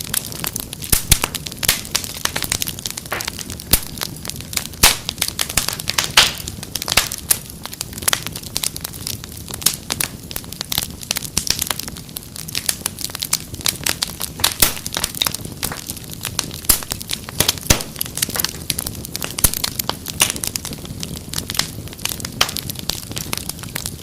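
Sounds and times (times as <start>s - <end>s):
flames hissing and rumbling: 0.0s - 24.0s
wood fire crackling and popping: 0.0s - 24.0s.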